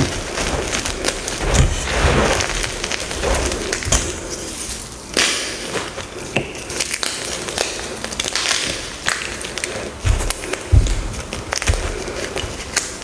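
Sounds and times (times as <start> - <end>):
chalk crackling and crunching: 0.0 - 13.0.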